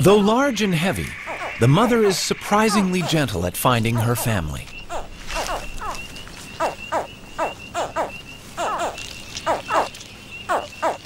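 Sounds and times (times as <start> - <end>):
alligator hatchlings chirping: 0.0 - 11.0.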